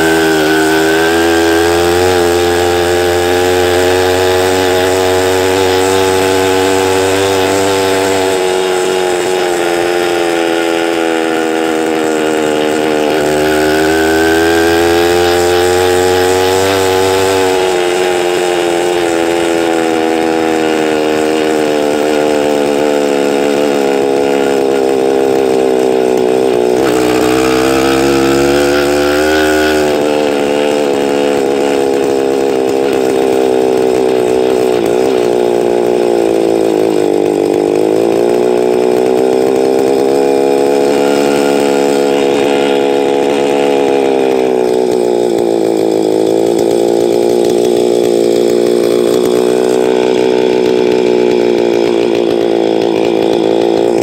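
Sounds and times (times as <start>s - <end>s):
motorized bicycle engine revving: 0.0s - 54.0s.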